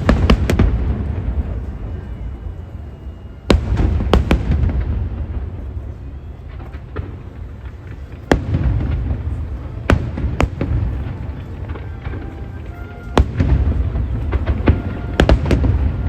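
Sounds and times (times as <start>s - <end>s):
faint music: 0.0s - 16.0s
fireworks bangs: 0.0s - 16.0s.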